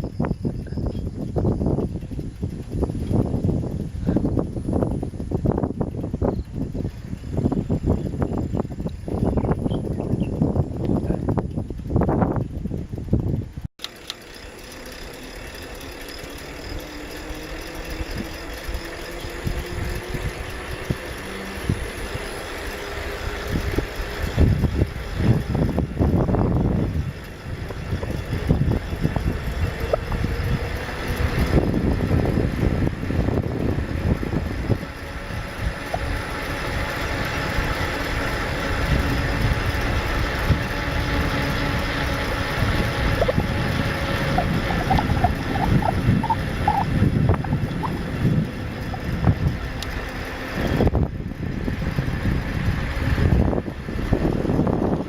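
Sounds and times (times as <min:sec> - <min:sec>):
bicycle rattling: 0:00.0 - 0:55.0
bicycle tyres rolling on road: 0:00.0 - 0:55.0
vehicle engine running: 0:00.0 - 0:55.0.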